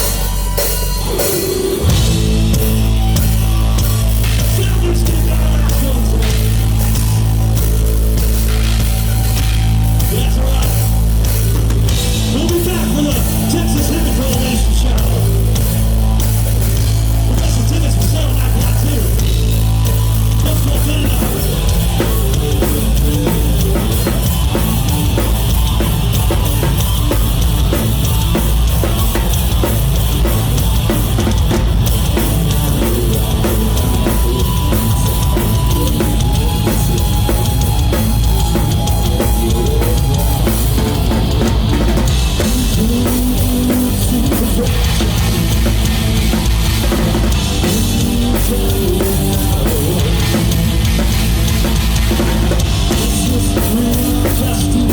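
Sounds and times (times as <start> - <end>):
bass guitar: 0.0 - 54.9
distorted guitars: 0.0 - 54.9.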